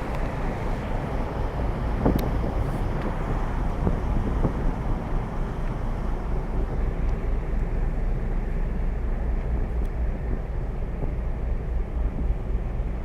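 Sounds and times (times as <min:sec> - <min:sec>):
ship engine low rumble: 0:00.0 - 0:13.0.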